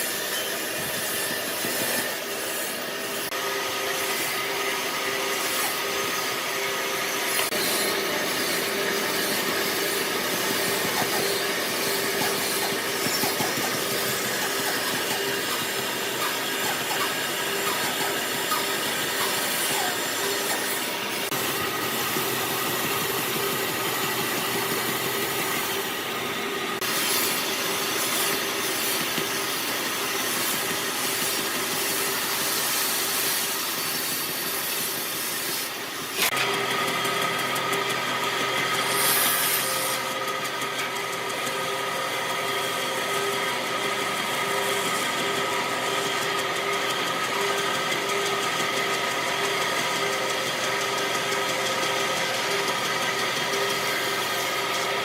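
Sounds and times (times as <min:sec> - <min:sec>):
woodworking power tool motor: 0:00.0 - 0:55.0.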